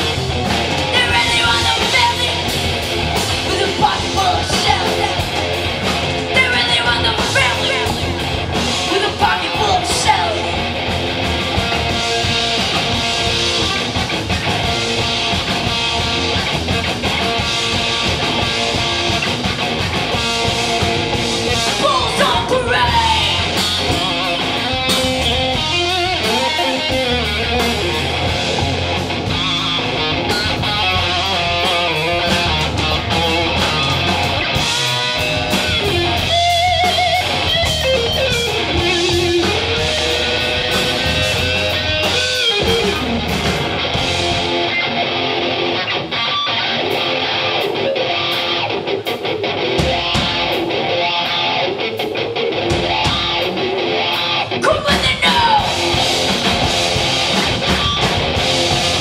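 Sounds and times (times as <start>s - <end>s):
bass and drums: 0.0s - 59.0s
electric guitar bending notes: 0.0s - 59.0s.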